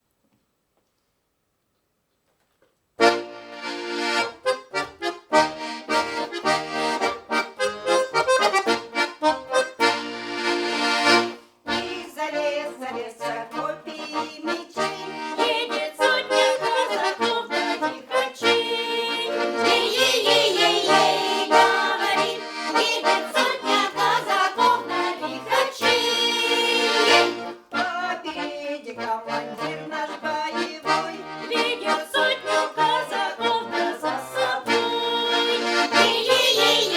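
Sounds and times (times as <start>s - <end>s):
accordion folk tune: 3.0s - 36.9s.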